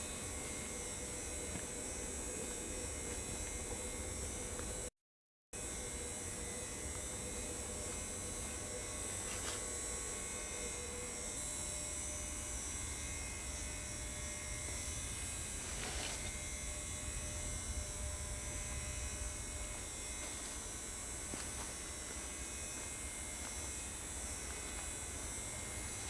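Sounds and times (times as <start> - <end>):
electrical hum: 0.0 - 4.9, 5.6 - 26.0.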